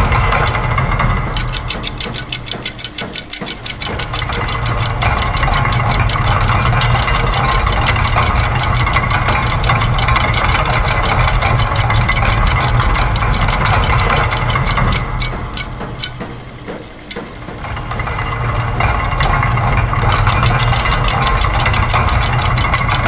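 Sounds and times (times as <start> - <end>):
fast mechanical ticking: 0.0 - 23.0
low machine hum: 0.0 - 23.0
machinery clatter: 0.0 - 23.0.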